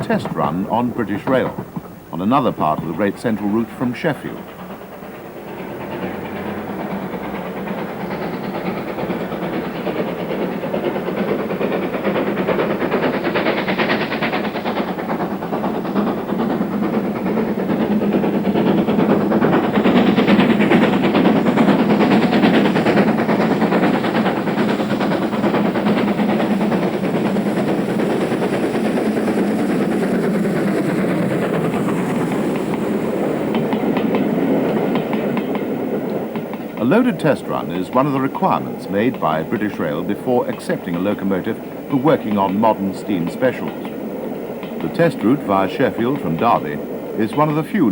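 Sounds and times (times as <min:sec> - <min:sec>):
steam locomotive running: 0:00.0 - 0:47.9
train rail noise: 0:00.0 - 0:47.9.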